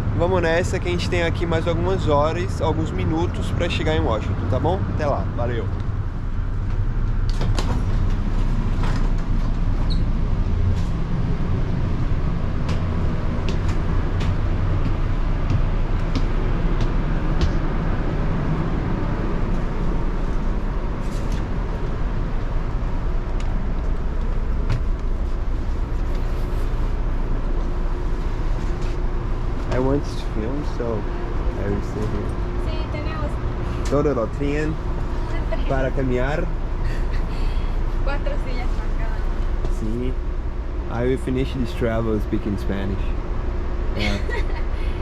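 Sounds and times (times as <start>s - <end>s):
train carriage rumble: 0.0s - 45.0s.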